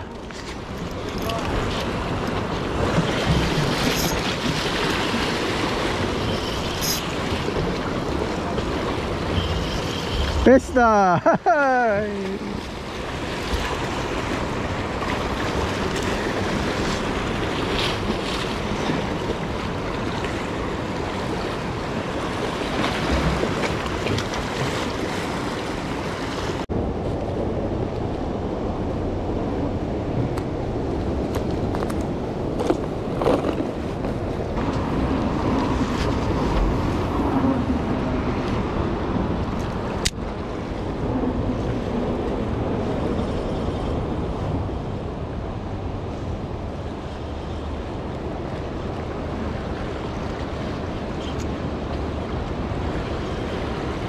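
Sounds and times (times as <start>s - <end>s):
ocean surf washing on beach: 0.0s - 54.0s.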